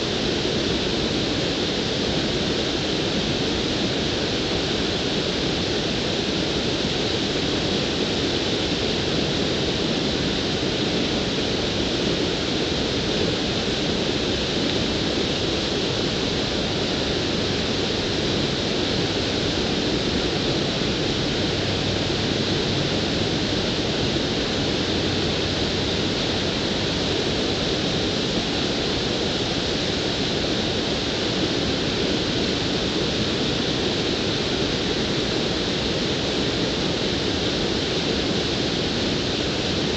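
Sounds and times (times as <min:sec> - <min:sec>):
water rushing over dam: 0:00.1 - 0:39.9.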